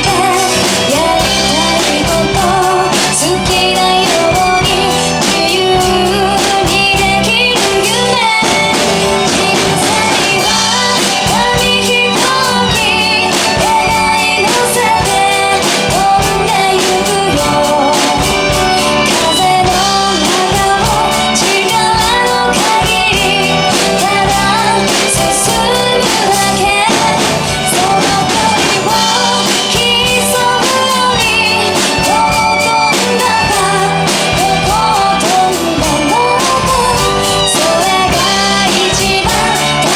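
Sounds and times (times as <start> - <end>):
band accompaniment: 0.0 - 39.9
drum kit beat: 0.0 - 39.9
woman singing pop song: 0.0 - 39.9.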